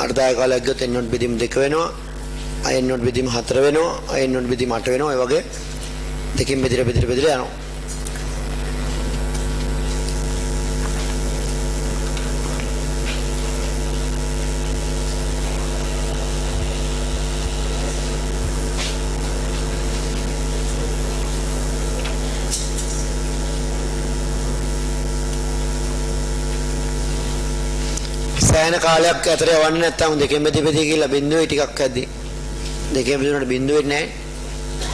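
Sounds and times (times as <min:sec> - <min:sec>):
machine hum: 0:00.0 - 0:34.9.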